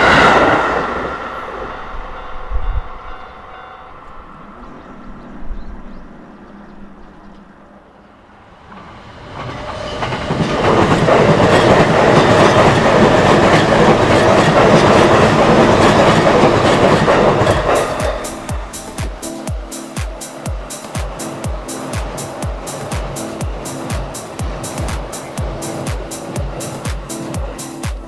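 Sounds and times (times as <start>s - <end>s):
electric train passing at speed: 0.0s - 28.0s.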